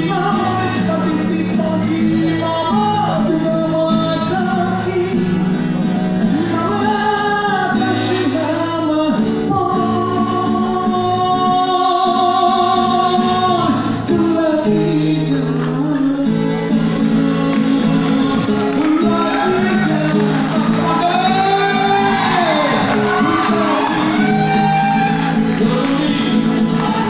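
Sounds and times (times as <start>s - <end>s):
acoustic guitar: 0.0s - 27.0s
man singing: 0.0s - 27.0s.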